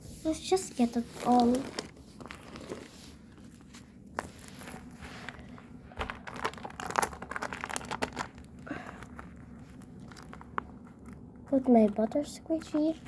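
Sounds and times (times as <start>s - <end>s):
squishy toys crinkling and rustling: 0.2s - 13.0s.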